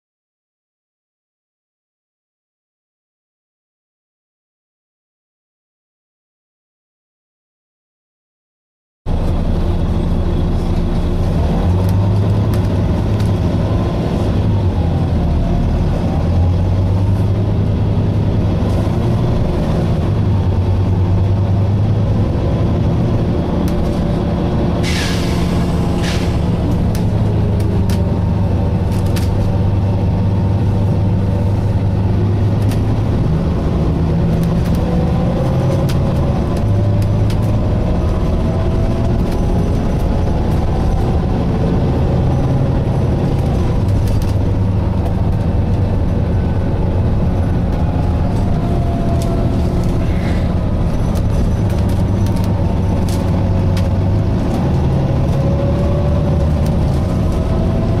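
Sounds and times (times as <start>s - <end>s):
bus engine droning: 9.1s - 58.0s.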